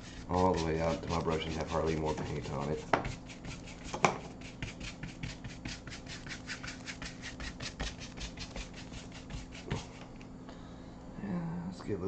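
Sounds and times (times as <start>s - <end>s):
paintbrush scrubbing on canvas: 0.0s - 10.1s.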